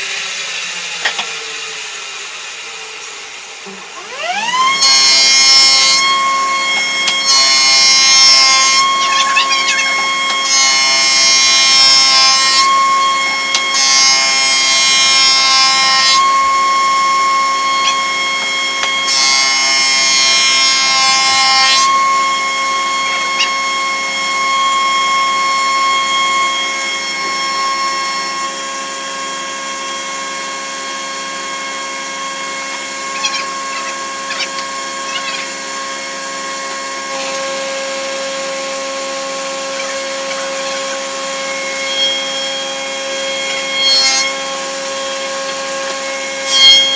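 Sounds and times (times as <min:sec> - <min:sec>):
jointer-planer whining: 0:03.0 - 0:46.9.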